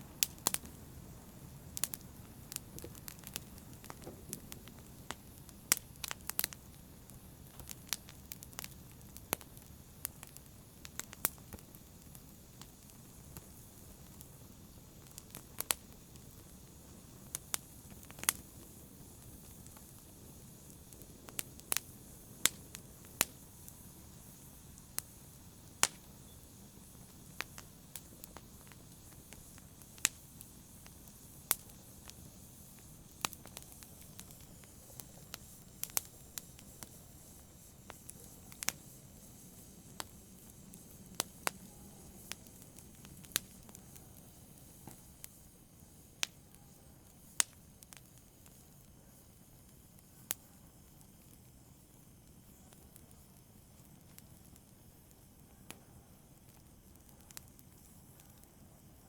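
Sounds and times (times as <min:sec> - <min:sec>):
low steady hiss: 0:00.0 - 0:59.0
wood fire crackling: 0:00.0 - 0:59.0.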